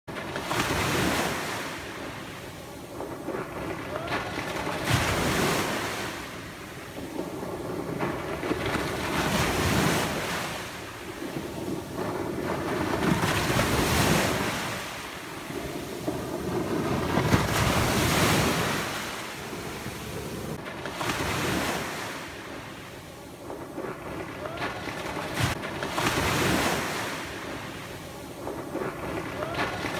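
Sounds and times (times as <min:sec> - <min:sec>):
small waves breaking on beach: 0:00.1 - 0:29.9.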